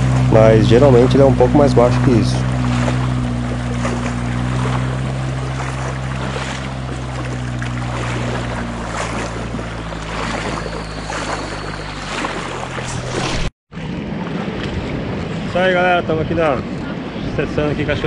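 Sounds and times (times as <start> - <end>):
engine running at low revs: 0.0 - 18.0
water rushing and splashing: 0.0 - 18.0.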